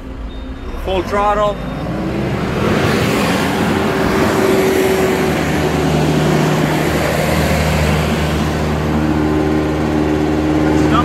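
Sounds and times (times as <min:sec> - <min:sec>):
steady low hum: 0:00.0 - 0:11.0
tractor engine at full throttle: 0:00.0 - 0:11.0.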